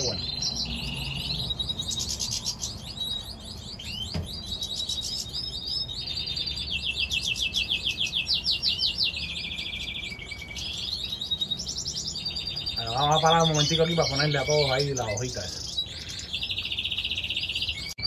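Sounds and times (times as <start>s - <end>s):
finches singing: 0.0s - 18.0s.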